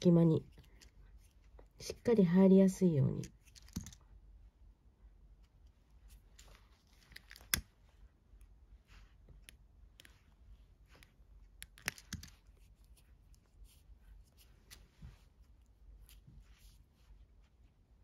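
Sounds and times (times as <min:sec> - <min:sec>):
cord rustling and clicking: 0:00.4 - 0:01.9, 0:03.1 - 0:04.2, 0:05.4 - 0:17.3.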